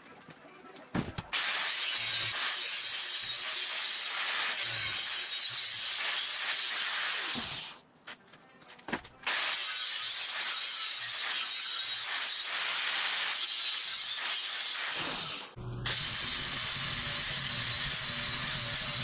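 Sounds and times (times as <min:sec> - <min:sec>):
angle grinder grinding steel: 0:01.4 - 0:07.8, 0:09.3 - 0:19.0.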